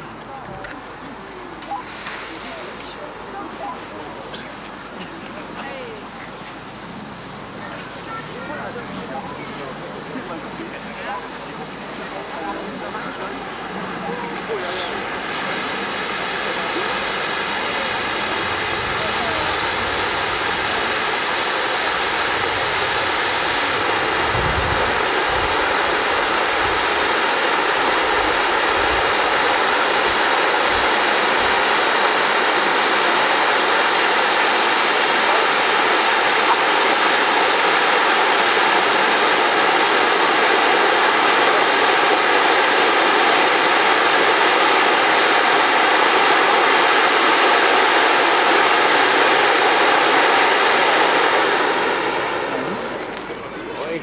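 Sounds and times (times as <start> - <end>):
sparks fountains hissing: 0.0 - 54.0.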